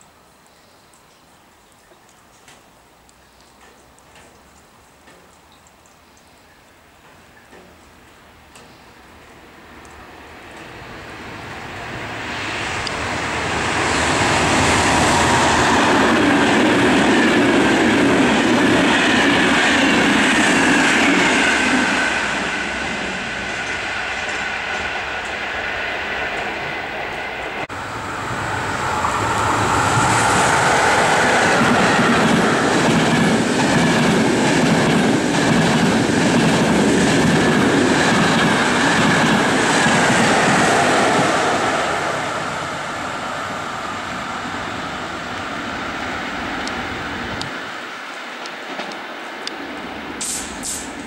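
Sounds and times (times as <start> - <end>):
train passing at speed: 9.0 - 51.0
train wheels on rails: 9.6 - 51.0.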